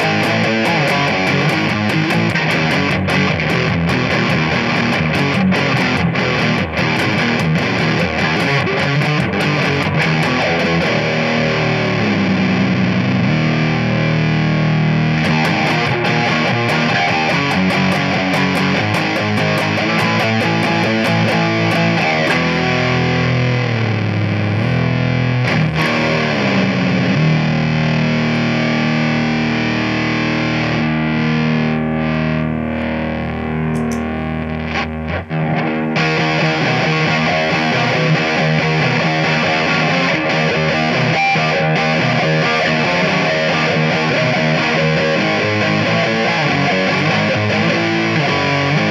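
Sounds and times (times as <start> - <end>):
distorted electric guitar: 0.0 - 48.9.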